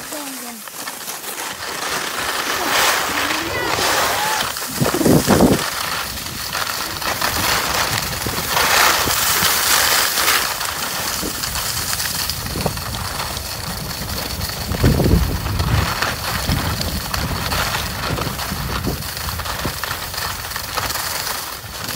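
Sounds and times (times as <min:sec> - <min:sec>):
skis scraping over snow: 0:00.0 - 0:21.9.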